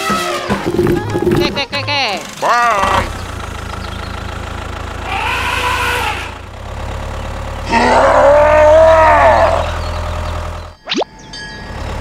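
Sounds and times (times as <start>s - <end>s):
small tractor engine rumbling: 0.4s - 12.0s
drawn-out pitched calls: 0.6s - 10.7s.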